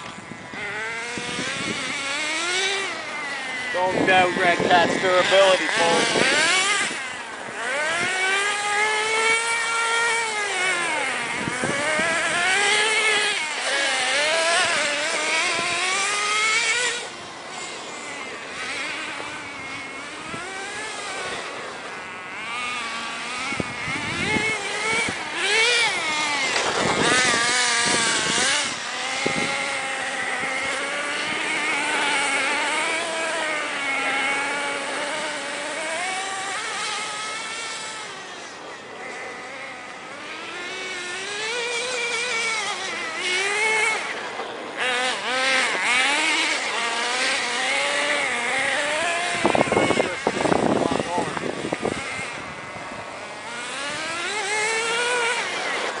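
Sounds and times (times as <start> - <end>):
radio-controlled truck engine revving: 0.0 - 56.0.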